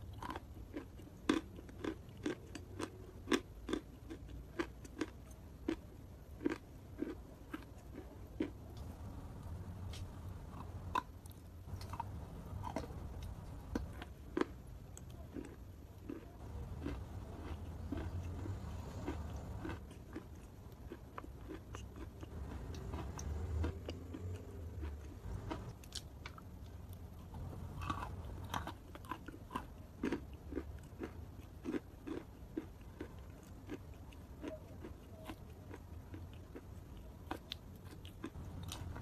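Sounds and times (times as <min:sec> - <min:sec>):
wet chewing crunches: 0:00.0 - 0:09.1, 0:09.9 - 0:39.0.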